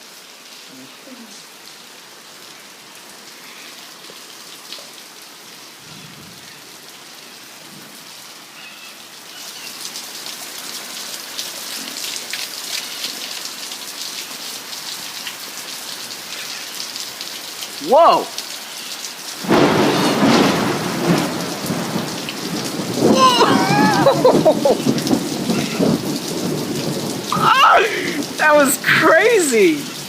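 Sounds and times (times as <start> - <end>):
heavy rain pattering: 0.0 - 30.0.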